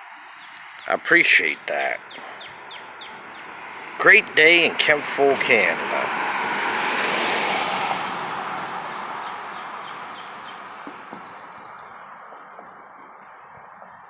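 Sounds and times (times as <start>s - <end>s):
passing vehicle rushing: 0.6s - 12.5s.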